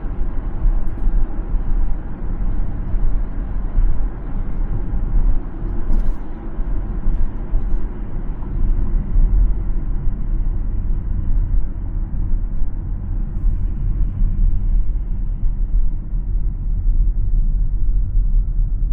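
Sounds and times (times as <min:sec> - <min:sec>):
car road and tyre noise: 0:00.0 - 0:18.9.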